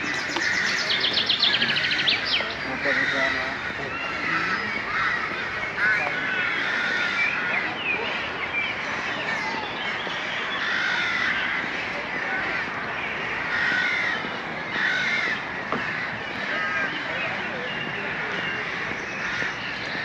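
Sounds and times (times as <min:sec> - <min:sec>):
crows cawing: 0:00.0 - 0:07.9, 0:08.8 - 0:17.2, 0:18.1 - 0:20.0.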